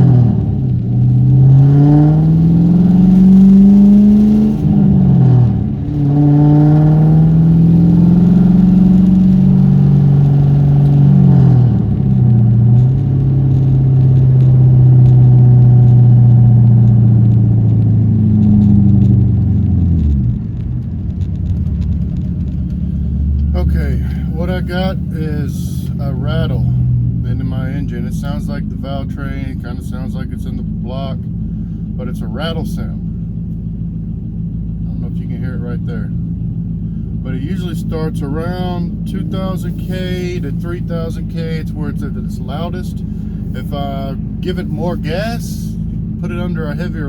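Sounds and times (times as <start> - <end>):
car engine accelerating: 0.0 - 47.0.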